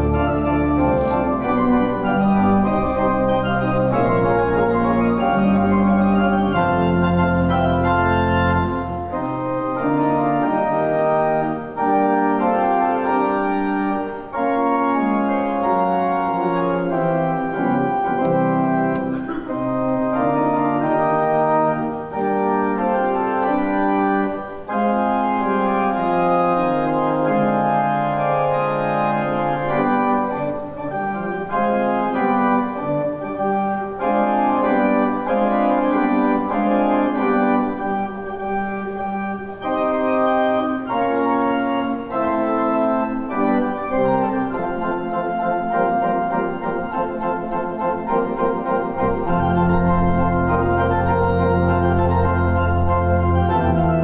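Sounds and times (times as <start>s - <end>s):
church organ chords: 0.0s - 54.0s
deep organ pedal bass notes: 0.0s - 54.0s.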